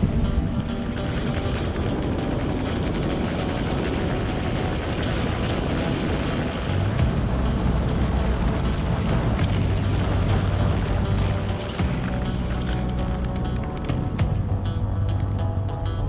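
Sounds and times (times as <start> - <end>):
outboard motor running: 0.0 - 14.9
water rushing past hull: 0.1 - 14.3.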